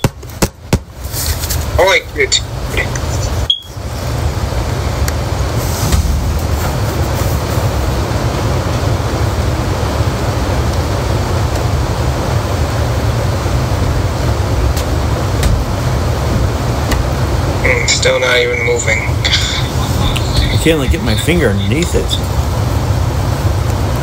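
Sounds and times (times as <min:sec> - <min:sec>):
loud low rumbling: 0:02.4 - 0:24.0.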